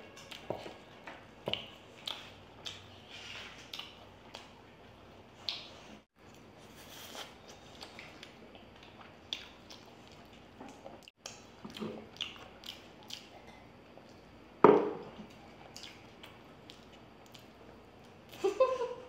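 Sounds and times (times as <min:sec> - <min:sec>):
people chewing: 0:00.2 - 0:14.4, 0:15.1 - 0:18.8.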